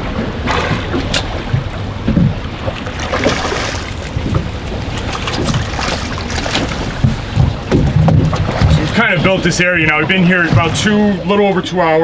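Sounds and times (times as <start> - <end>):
rough water washing: 0.0 - 12.0
wind buffeting microphone: 0.0 - 12.0.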